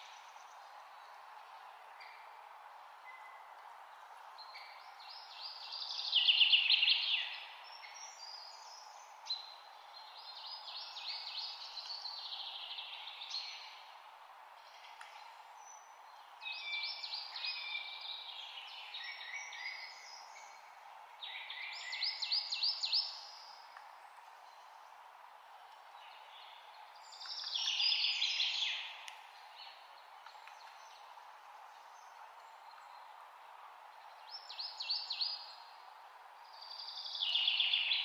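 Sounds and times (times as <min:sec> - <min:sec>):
songbirds singing: 0:00.0 - 0:38.0
steady hiss: 0:00.0 - 0:38.0.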